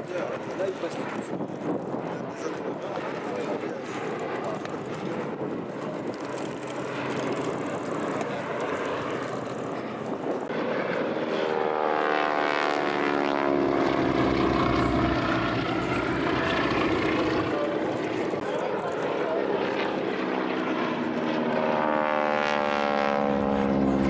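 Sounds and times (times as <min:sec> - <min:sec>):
propeller aircraft flying past: 0:00.0 - 0:24.0.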